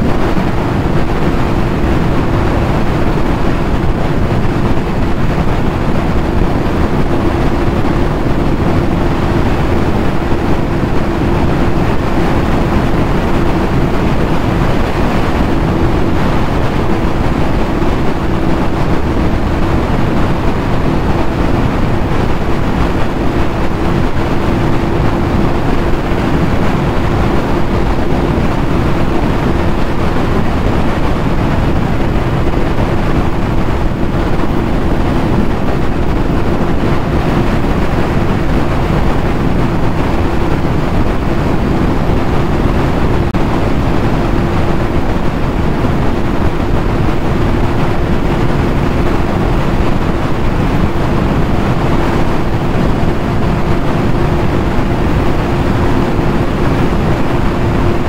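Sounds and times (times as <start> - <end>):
motorcycle engine cruising: 0.0 - 58.0
wind on microphone: 0.0 - 58.0.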